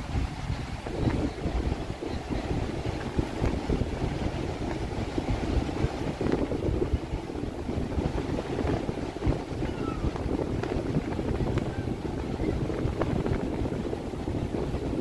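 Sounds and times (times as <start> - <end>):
breaking surf: 0.0 - 15.0
gusty wind buffeting microphone: 0.0 - 15.0.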